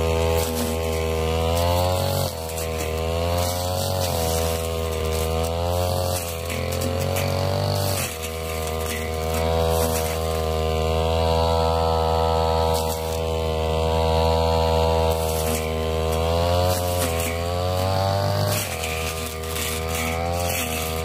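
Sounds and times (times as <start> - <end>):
brush cutter engine cutting grass: 0.0 - 21.0.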